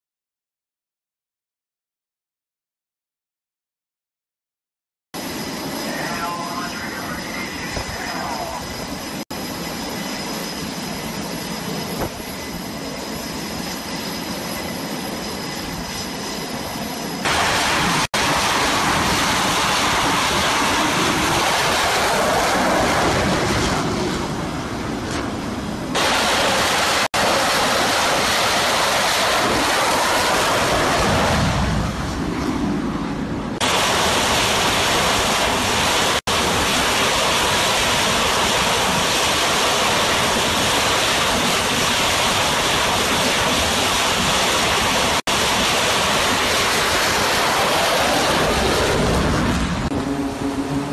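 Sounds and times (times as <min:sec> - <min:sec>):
jet engine rushing roar: 0:05.2 - 0:50.9
jet engine whine: 0:05.2 - 0:50.9.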